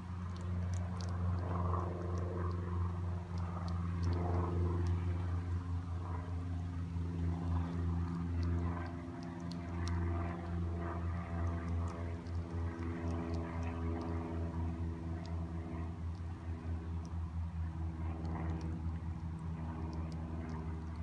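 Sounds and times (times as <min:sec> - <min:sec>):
light ticks: 0:00.2 - 0:06.2, 0:07.2 - 0:17.2, 0:17.8 - 0:21.0.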